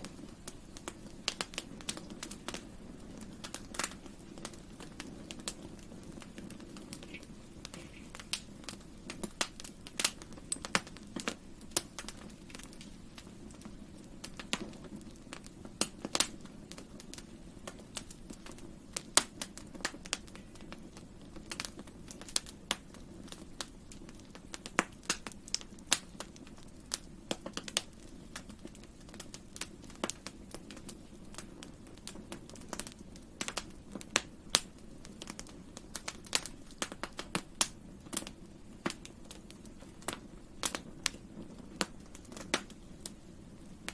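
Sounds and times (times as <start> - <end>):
low rumble of burning: 0.0 - 43.9
wood fire pops and snaps: 0.0 - 43.9.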